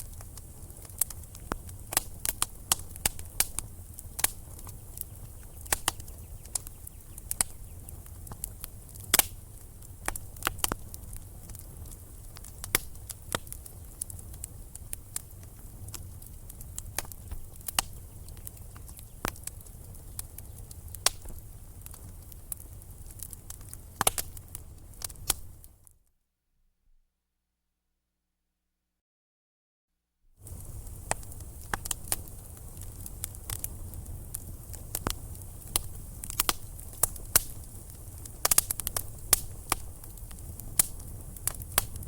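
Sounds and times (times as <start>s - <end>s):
low rumble of flames: 0.0s - 25.9s, 30.4s - 42.0s
wood fire crackling and popping: 0.0s - 25.9s, 30.4s - 42.0s.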